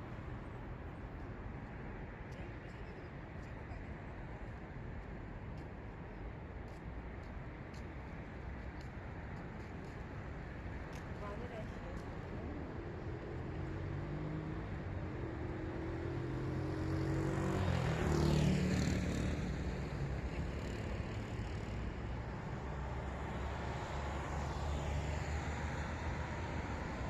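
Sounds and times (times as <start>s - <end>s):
cars passing on a street: 0.0s - 27.0s.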